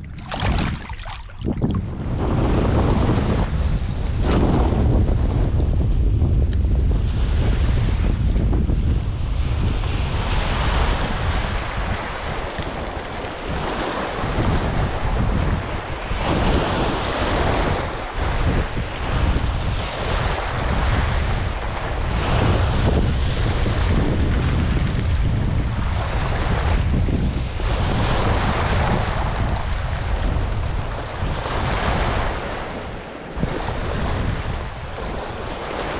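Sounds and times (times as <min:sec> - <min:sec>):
small waves breaking on shore: 0:00.0 - 0:04.5, 0:09.2 - 0:35.9
wind buffeting microphone: 0:00.0 - 0:35.9.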